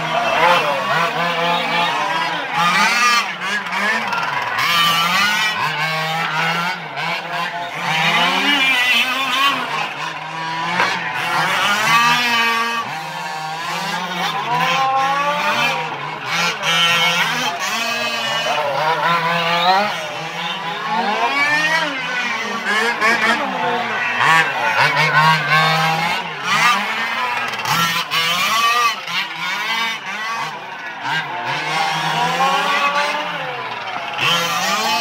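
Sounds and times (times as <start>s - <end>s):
rc car engines revving: 0.0s - 35.0s.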